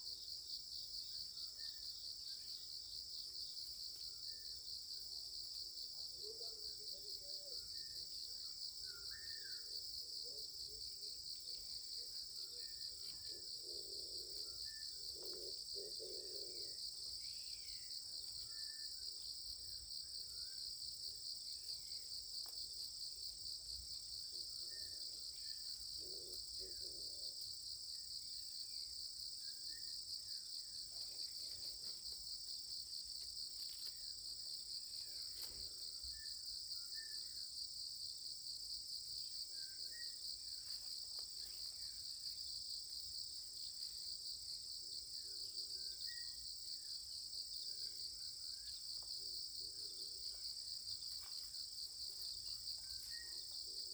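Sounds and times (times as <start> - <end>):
insect chorus trilling: 6.0 - 53.9.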